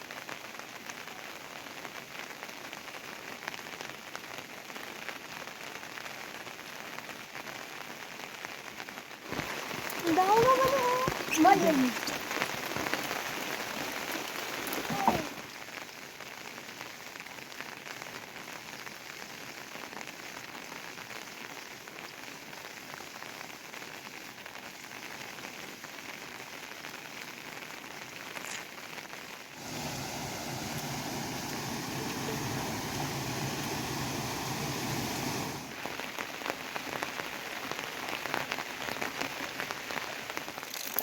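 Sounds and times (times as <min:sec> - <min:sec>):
rain pattering on surfaces: 0:00.0 - 0:41.0.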